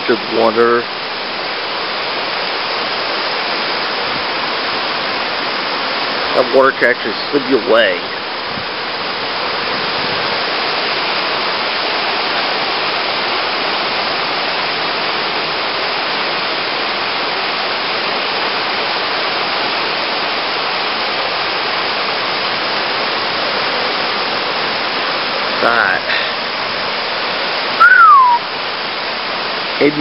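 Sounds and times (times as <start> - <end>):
flooded creek rushing: 0.0 - 30.0.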